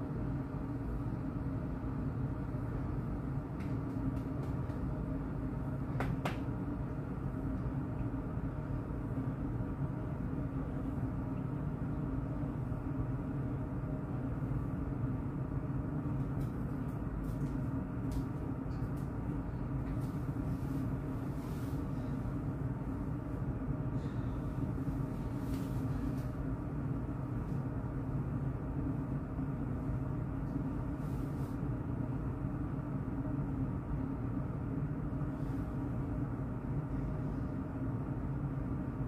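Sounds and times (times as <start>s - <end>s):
ceiling fan humming: 0.0s - 39.0s.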